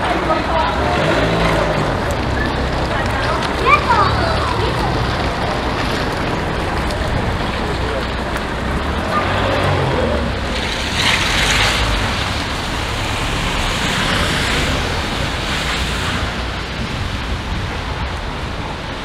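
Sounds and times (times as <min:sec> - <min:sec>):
tyres hissing on wet street: 0:00.0 - 0:19.0.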